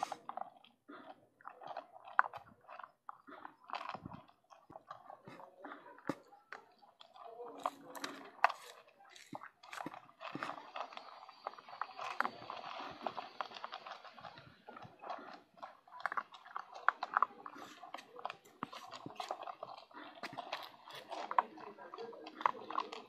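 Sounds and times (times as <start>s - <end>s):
dogs crunching dry kibble: 0.0s - 23.0s.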